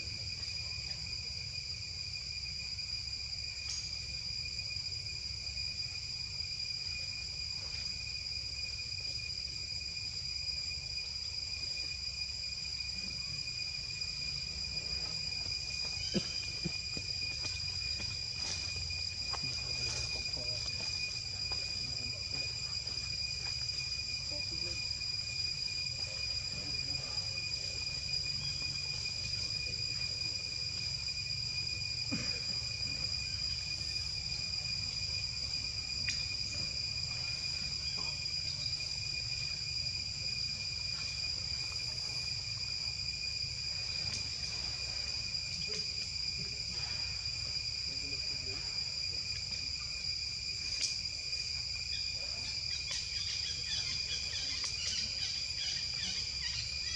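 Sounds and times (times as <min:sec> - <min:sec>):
insects droning: 0:00.0 - 0:56.9.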